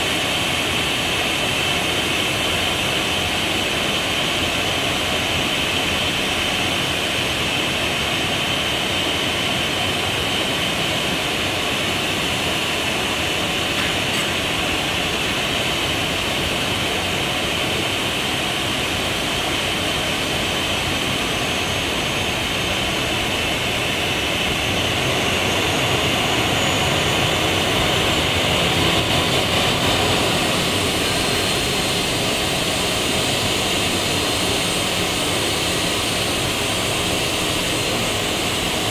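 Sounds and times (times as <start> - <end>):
jet engines idling: 0.0 - 38.9.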